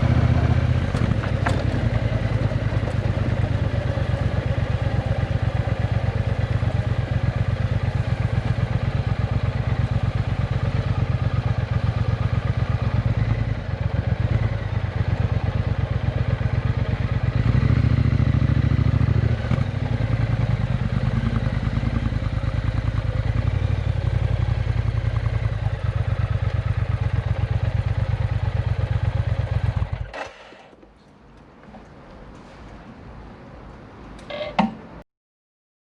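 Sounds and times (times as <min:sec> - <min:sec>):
motorcycle engine idling and revving: 0:00.0 - 0:30.8.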